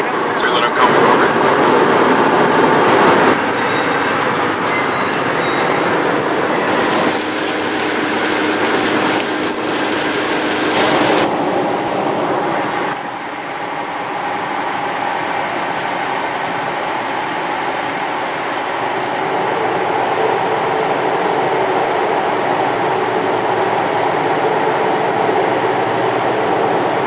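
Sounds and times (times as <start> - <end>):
car road and wind noise: 0.0 - 27.0.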